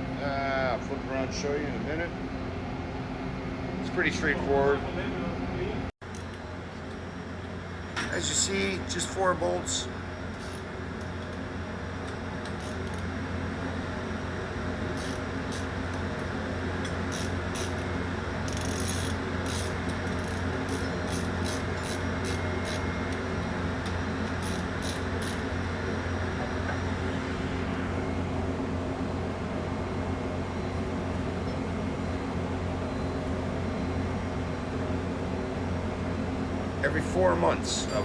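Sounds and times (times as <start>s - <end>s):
engine room machinery hum: 0.0s - 38.0s.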